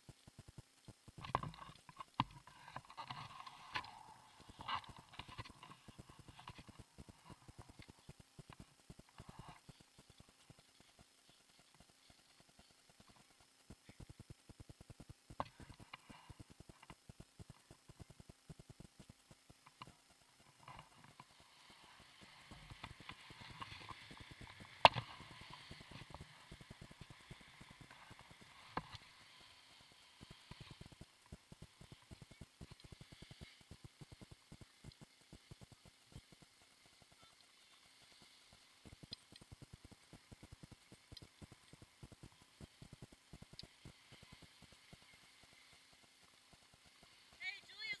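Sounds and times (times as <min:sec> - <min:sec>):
snow sliding hiss: 0:00.0 - 0:48.0.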